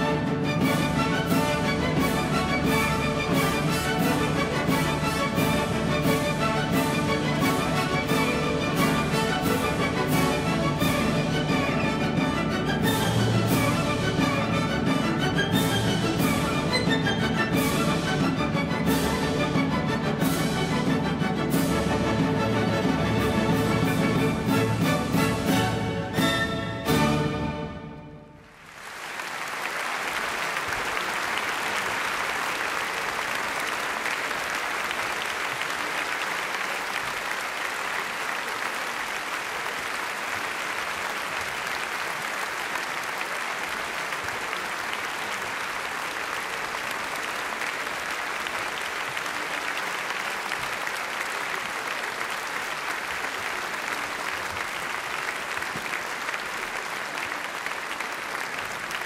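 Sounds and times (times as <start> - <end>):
large audience applauding: 0.0 - 26.0, 28.3 - 59.0.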